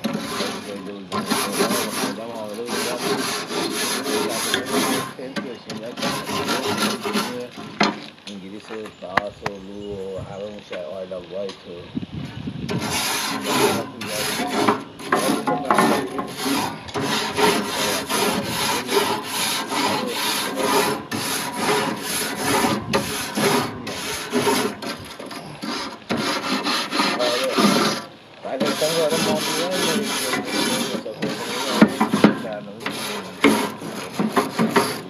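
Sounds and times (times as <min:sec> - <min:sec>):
wire brush scrubbing grill grates: 0:00.0 - 0:11.8, 0:12.7 - 0:35.0.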